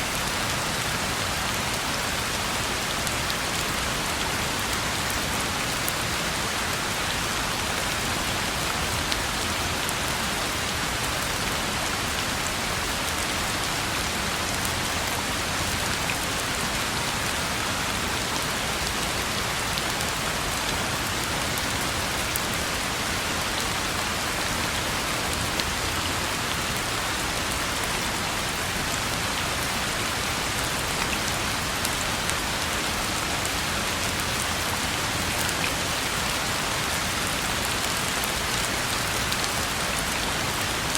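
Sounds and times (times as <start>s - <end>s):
rain falling on a road: 0.0s - 40.9s.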